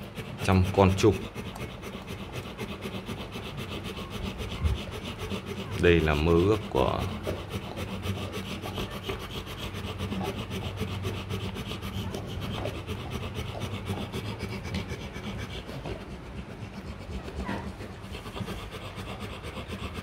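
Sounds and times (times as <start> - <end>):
dog panting rapidly: 0.0 - 20.0.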